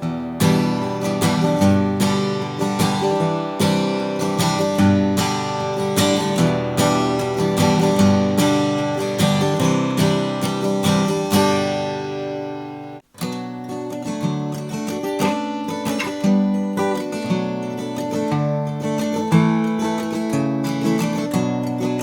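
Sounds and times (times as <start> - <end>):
acoustic guitar strummed chords: 0.0 - 22.0.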